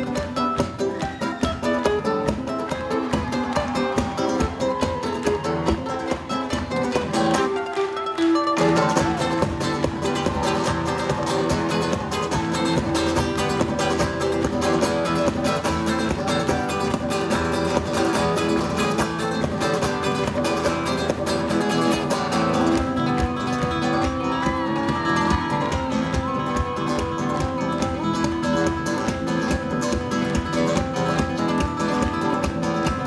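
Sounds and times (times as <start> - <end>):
flamenco acoustic guitars: 0.0 - 33.0.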